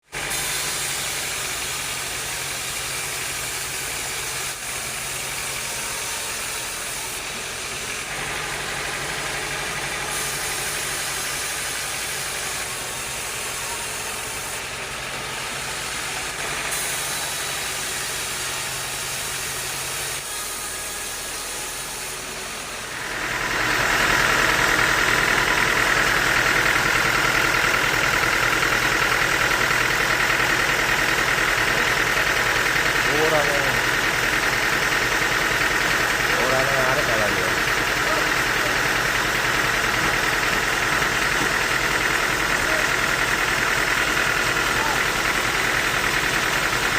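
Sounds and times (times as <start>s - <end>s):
bandsaw machinery drone: 0.0s - 46.9s.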